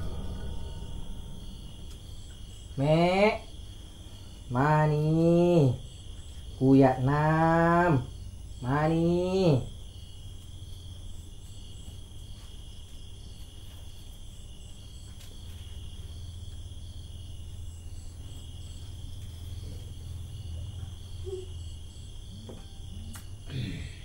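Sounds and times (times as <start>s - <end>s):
crickets and insects chirping: 0.0s - 24.0s.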